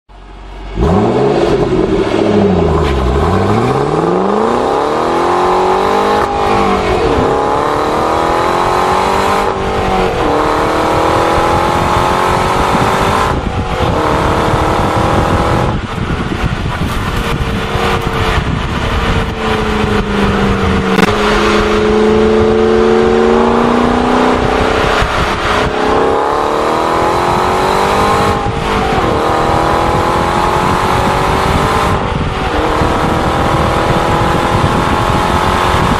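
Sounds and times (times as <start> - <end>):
car engine accelerating through gears: 0.2 - 35.9.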